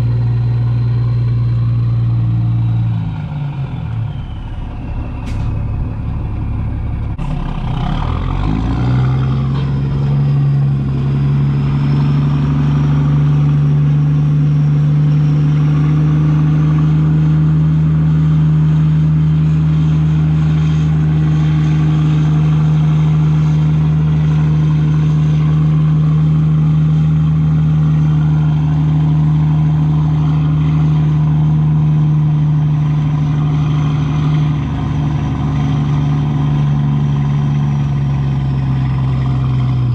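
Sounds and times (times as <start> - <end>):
truck diesel engine pulling away: 0.0 - 39.9.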